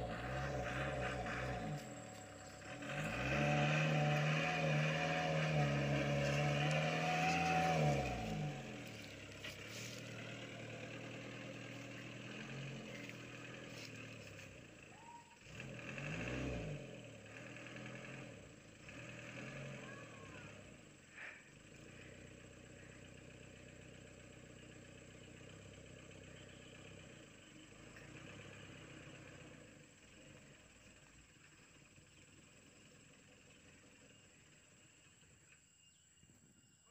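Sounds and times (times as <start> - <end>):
truck engine pulling: 0.0 - 35.6.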